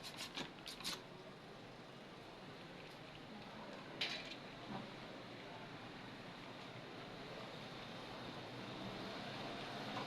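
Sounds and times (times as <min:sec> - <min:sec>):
faint room noise: 0:00.0 - 0:10.0.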